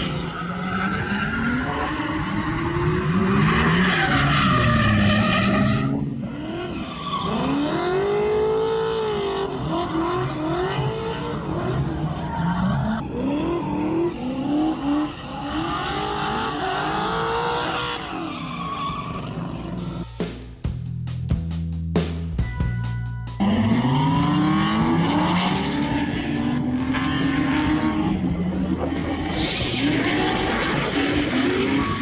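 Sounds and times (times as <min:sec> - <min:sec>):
tyres skidding: 0:00.0 - 0:14.2, 0:14.9 - 0:20.6, 0:23.3 - 0:32.0
car engine revving: 0:00.0 - 0:20.2, 0:23.4 - 0:32.0.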